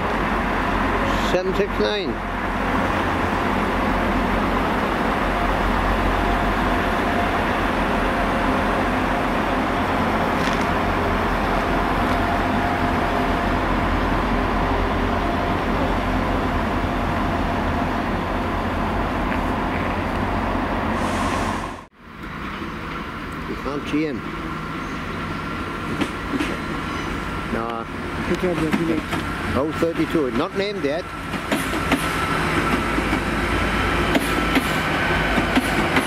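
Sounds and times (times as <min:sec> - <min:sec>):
diesel train engine drone: 0:00.0 - 0:36.0.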